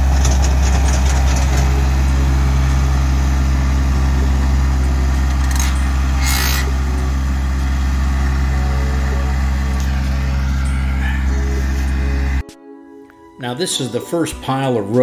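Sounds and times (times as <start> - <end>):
tractor engine running: 0.0 - 12.4.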